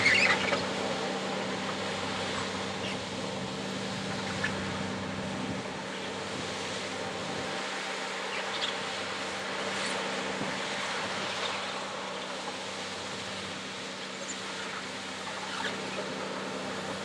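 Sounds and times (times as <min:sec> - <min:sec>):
machine drone: 0:00.0 - 0:17.0.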